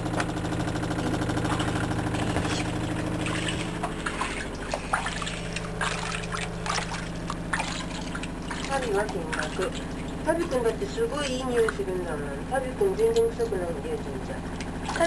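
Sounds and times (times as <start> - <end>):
steady low hum: 0.0 - 15.0
water splashing in a washbasin: 0.0 - 15.0.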